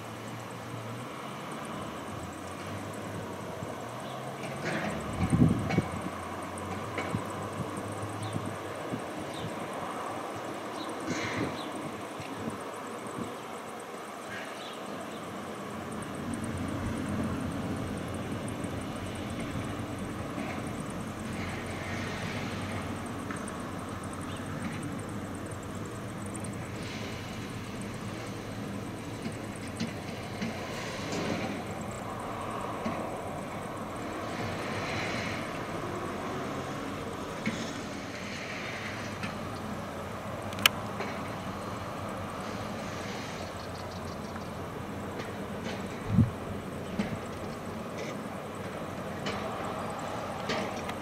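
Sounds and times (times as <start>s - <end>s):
distant diesel machinery drone: 0.0s - 51.0s.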